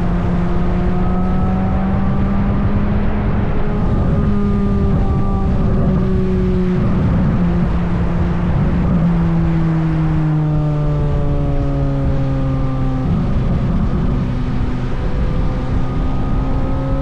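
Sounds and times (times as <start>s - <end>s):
car engine decelerating: 0.0s - 17.0s.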